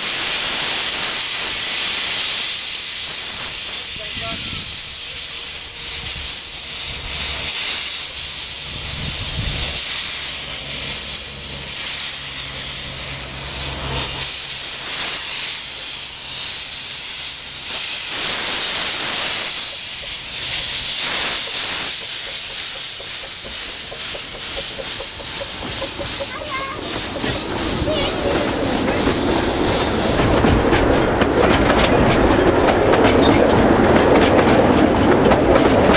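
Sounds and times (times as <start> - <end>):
steam locomotive hissing steam: 0.0 - 35.9.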